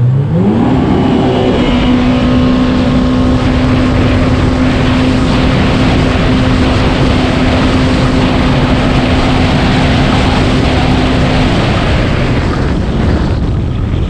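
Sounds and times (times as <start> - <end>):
personal watercraft engine running: 0.0 - 14.0
rushing water: 0.0 - 14.0
wind: 0.0 - 14.0.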